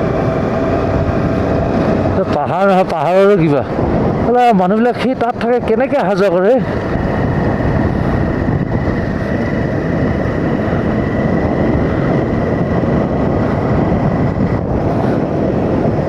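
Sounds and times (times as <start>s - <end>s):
motorcycle engine: 0.0s - 16.0s
thin steady whine: 0.0s - 16.0s
wind and road noise: 0.0s - 16.0s.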